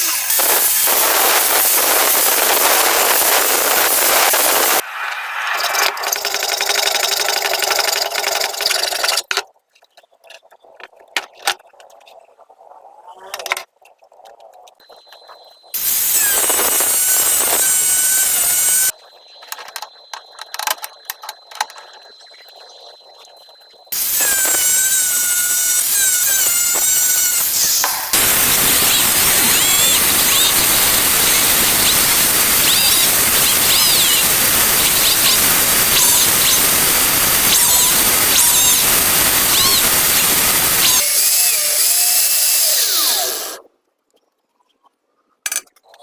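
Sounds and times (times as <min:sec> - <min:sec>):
gas burner hissing and whistling: 0:00.0 - 0:08.0, 0:14.8 - 0:43.7.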